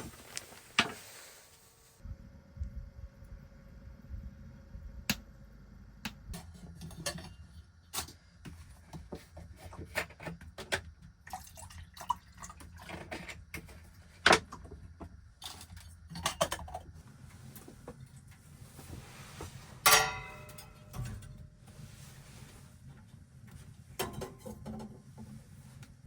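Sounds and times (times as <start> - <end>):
low steady hum: 0.0 - 10.7, 11.3 - 26.0.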